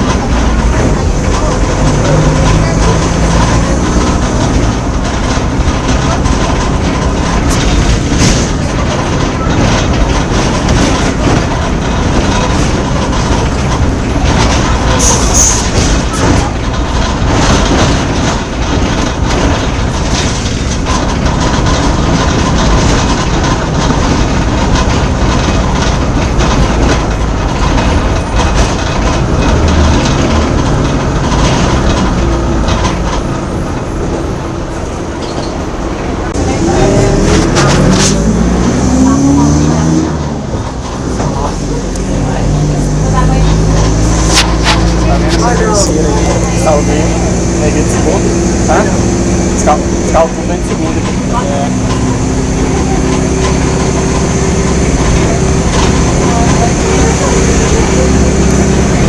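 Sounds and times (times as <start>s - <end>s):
bus diesel engine running: 0.0s - 59.0s
rattles and clicks from bus body: 0.0s - 59.0s.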